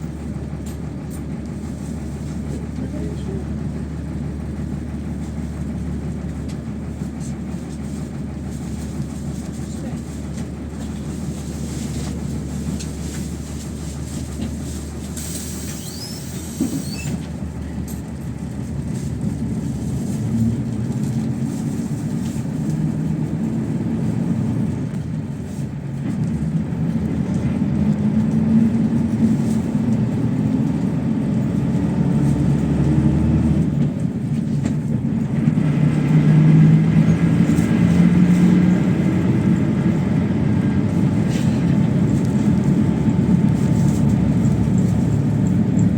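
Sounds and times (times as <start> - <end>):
bus engine humming: 0.0 - 45.9
road rumble: 0.0 - 45.9.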